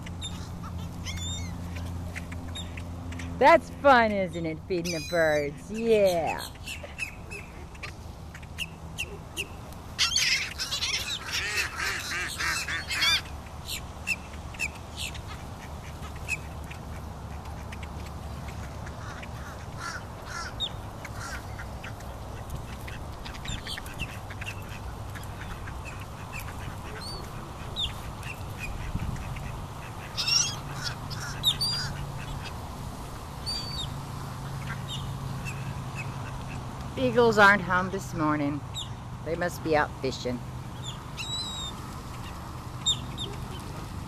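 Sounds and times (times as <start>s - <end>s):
ducks and birds squawking: 0.0s - 44.0s.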